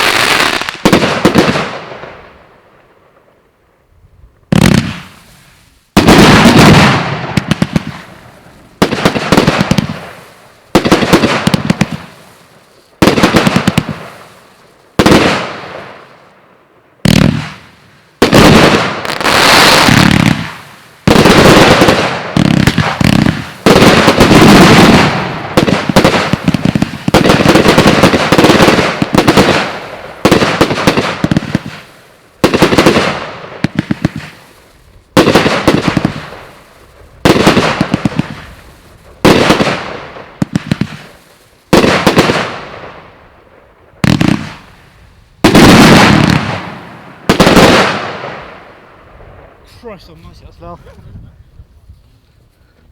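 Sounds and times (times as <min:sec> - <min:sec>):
fireworks bangs with crackling: 0:00.0 - 0:03.5, 0:04.4 - 0:16.4, 0:17.0 - 0:52.0.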